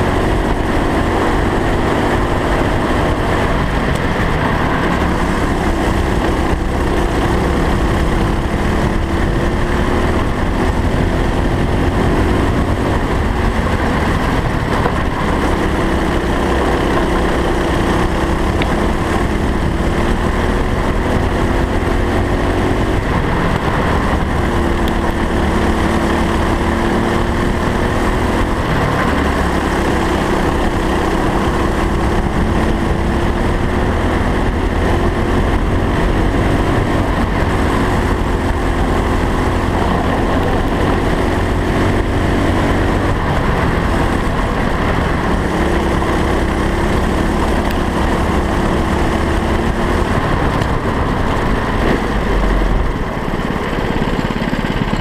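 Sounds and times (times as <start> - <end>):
kart engine accelerating: 0.0 - 55.0
low rumble: 0.0 - 55.0.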